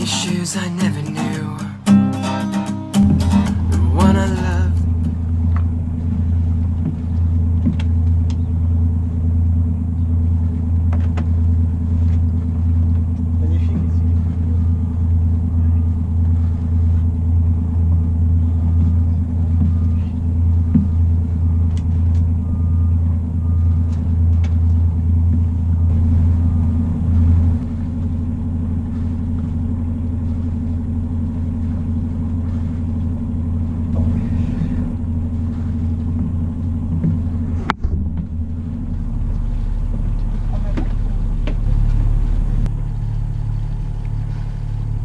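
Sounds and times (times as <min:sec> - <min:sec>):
boat diesel engine running: 0:00.0 - 0:45.0.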